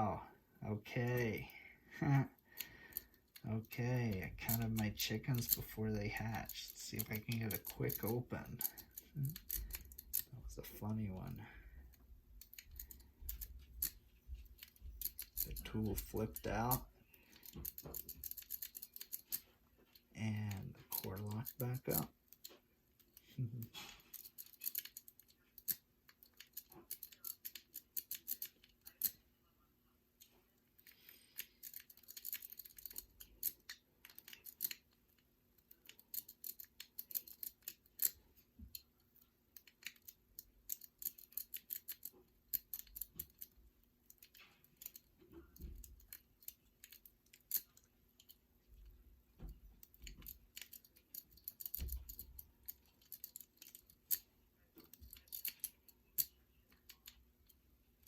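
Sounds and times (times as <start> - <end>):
lockpick clicking and scraping in lock: 4.1 - 10.3, 10.9 - 29.2, 30.2 - 57.6.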